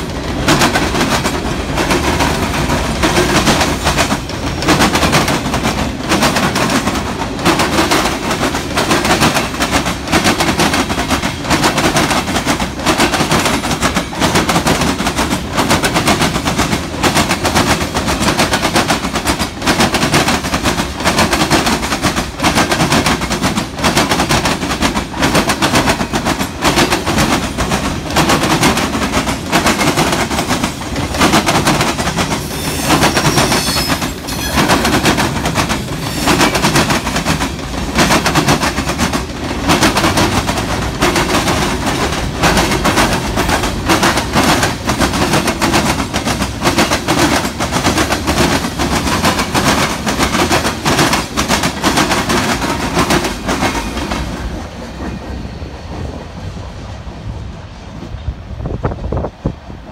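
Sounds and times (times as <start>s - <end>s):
train wheels banging over track: 0.0s - 56.4s
train rumble: 0.0s - 59.9s.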